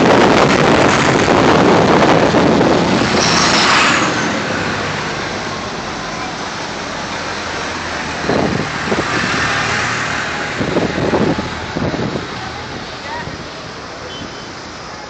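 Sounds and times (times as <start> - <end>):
road noise: 0.0 - 15.0
tractor engines running: 0.0 - 15.0.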